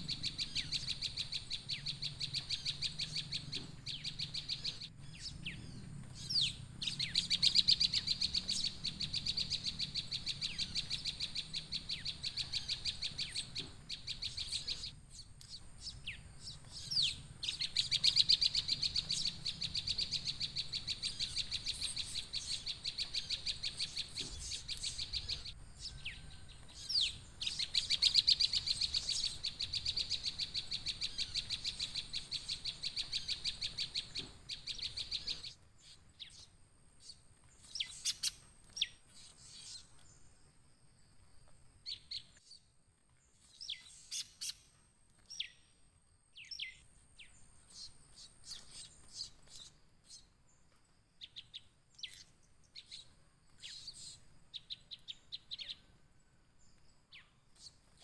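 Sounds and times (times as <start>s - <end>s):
recorded bird song chirps: 0.0s - 58.0s.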